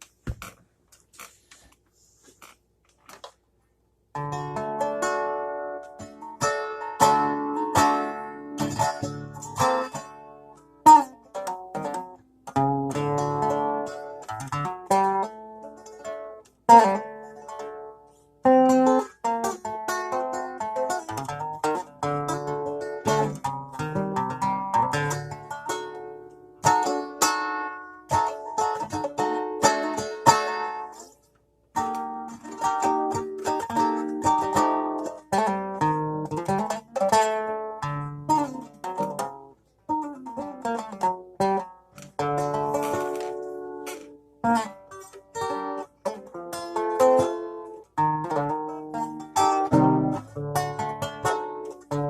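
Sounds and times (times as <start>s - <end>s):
plucked string instrument: 4.1s - 52.0s
guitar strumming chords: 4.2s - 31.1s, 31.8s - 52.0s.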